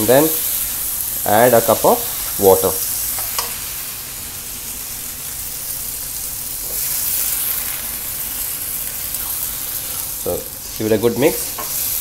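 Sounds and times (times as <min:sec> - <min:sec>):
masala sizzling in a wok: 0:00.0 - 0:12.0.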